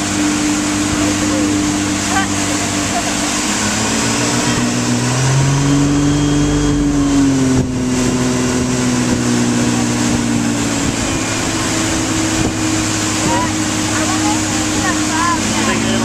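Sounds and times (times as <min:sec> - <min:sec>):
motorboat engine running: 0:00.0 - 0:16.0
wake rushing: 0:00.0 - 0:16.0
wind on microphone: 0:00.0 - 0:16.0.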